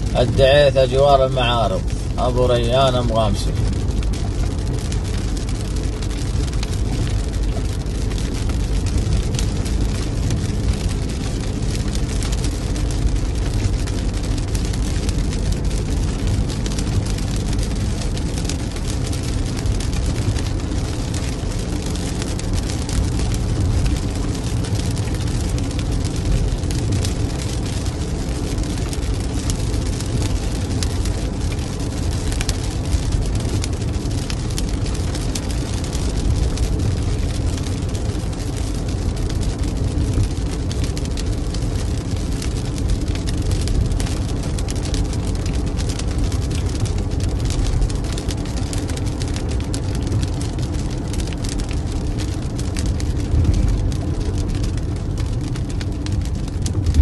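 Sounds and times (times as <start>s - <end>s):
raindrops ticking on windshield: 0.0s - 57.0s
road and engine rumble in car: 0.0s - 57.0s.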